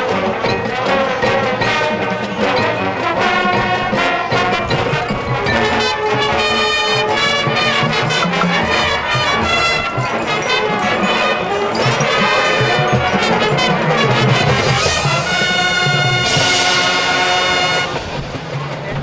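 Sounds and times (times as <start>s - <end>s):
marching band brass chords: 0.0s - 19.0s.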